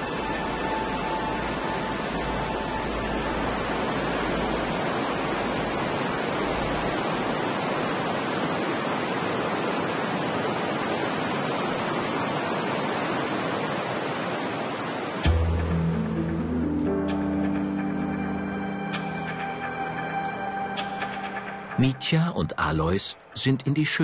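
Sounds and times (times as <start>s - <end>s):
river rushing: 0.0s - 22.8s.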